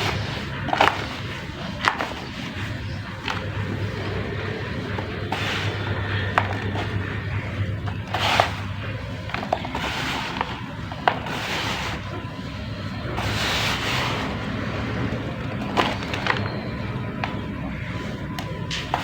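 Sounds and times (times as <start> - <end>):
cement hissing: 0.0 - 19.0.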